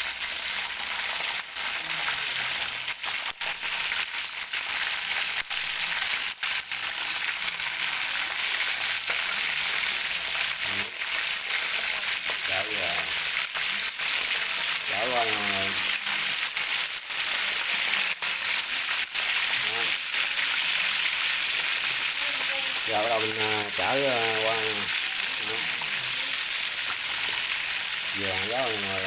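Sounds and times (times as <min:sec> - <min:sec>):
meat deep-frying in hot oil: 0:00.0 - 0:29.0.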